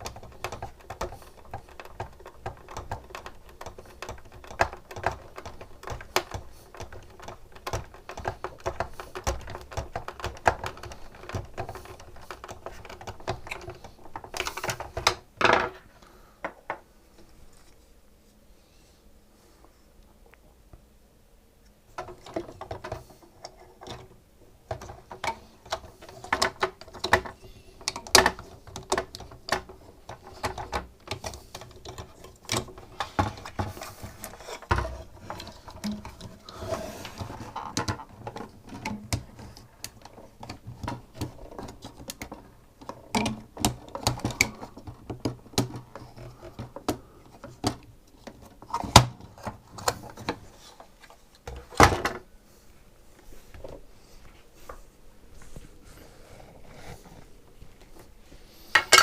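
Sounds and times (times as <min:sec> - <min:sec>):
plastic parts clicking and rattling: 0:00.0 - 0:17.3, 0:21.9 - 0:52.2.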